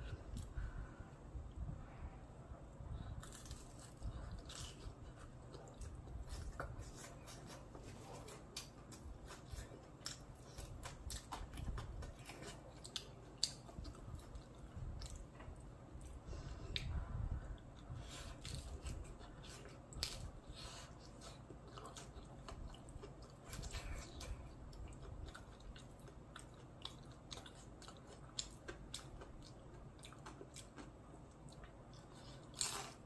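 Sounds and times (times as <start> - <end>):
person chewing crunchy food: 3.2 - 17.0, 17.6 - 33.0.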